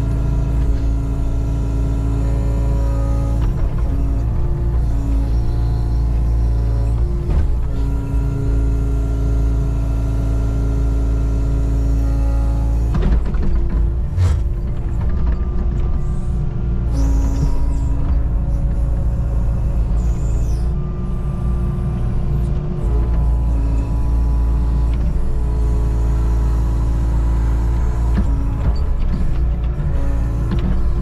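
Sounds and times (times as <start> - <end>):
diesel engine rumble: 0.0 - 31.0
hydraulic whine: 0.0 - 31.0.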